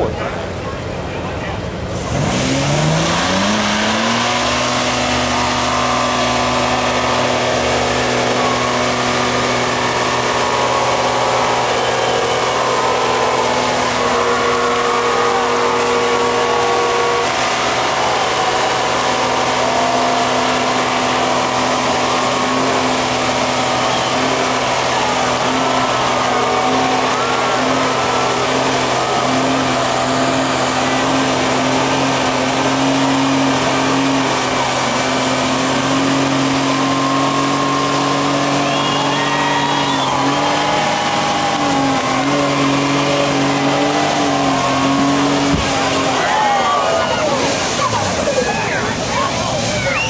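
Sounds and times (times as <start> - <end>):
car engine at high revs: 0.0 - 50.0
crowd voices: 0.0 - 50.0
tyres spinning on pavement: 3.3 - 50.0.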